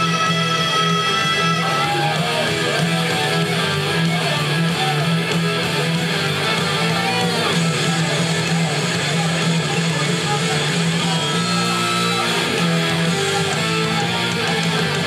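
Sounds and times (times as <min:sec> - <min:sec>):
pop-rock music with electric guitar: 0:00.0 - 0:15.0.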